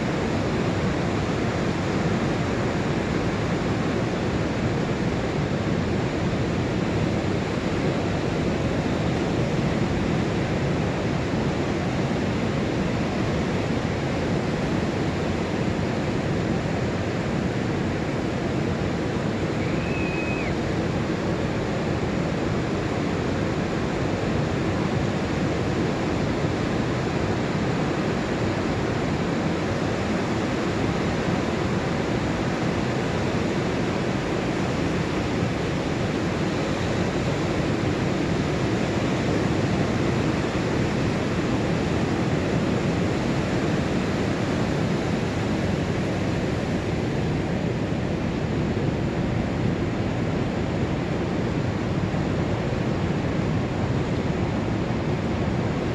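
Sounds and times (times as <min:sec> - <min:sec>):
surf washing up a beach: 0:00.0 - 0:55.9.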